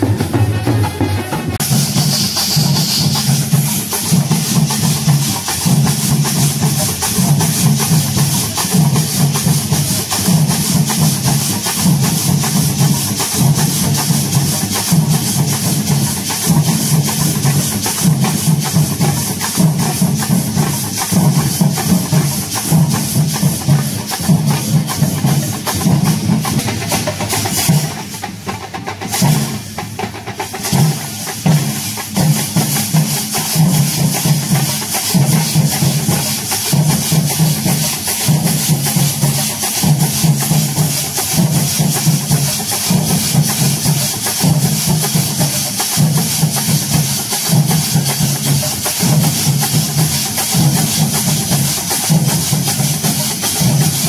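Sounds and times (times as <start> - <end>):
drums beaten with sticks: 0.0 - 54.0
hand cymbals clashing: 0.0 - 54.0.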